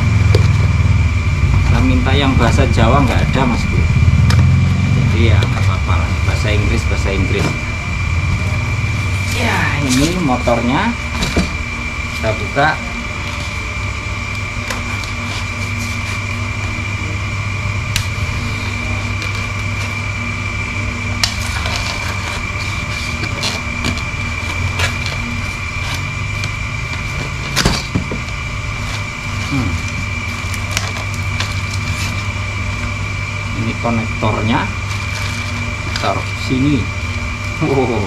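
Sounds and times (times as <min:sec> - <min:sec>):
background hum: 0:00.0 - 0:38.0
thin high whine: 0:00.0 - 0:38.0.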